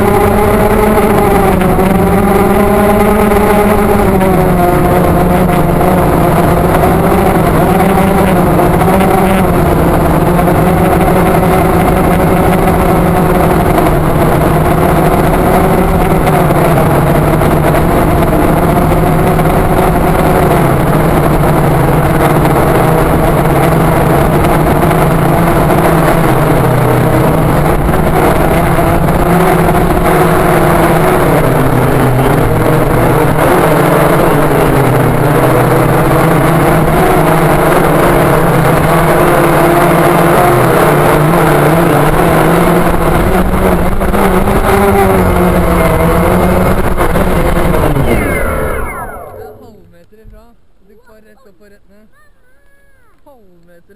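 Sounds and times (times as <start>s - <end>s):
drone propellers buzzing: 0.0s - 50.4s.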